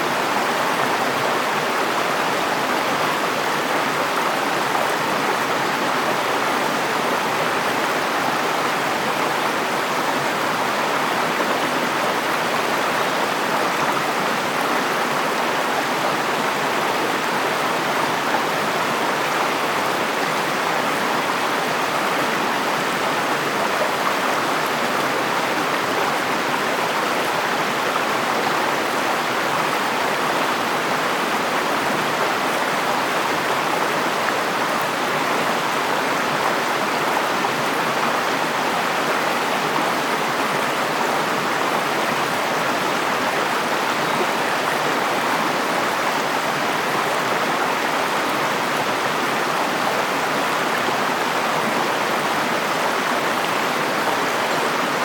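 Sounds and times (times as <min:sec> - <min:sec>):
river water flowing over rocks: 0:00.0 - 0:55.0.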